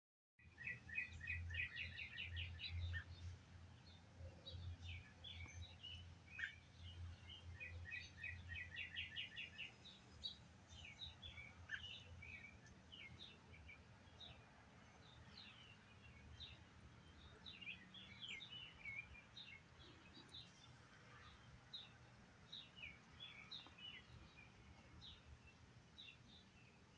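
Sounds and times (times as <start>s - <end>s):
small birds chirping: 0.4s - 26.9s.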